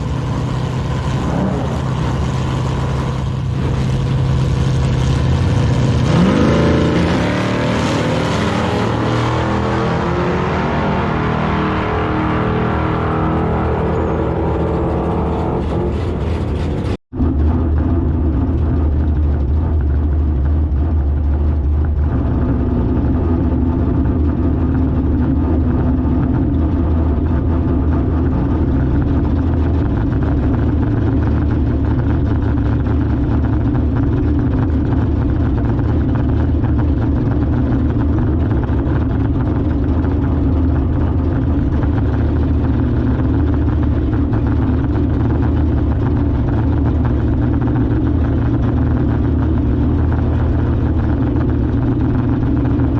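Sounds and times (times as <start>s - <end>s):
car engine idling: 0.0s - 10.0s, 12.2s - 52.9s.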